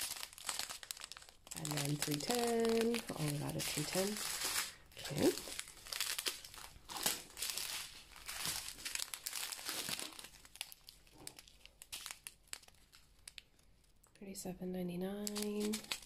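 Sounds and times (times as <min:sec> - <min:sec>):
plastic bags crinkling: 0:00.0 - 0:14.2, 0:15.2 - 0:16.0.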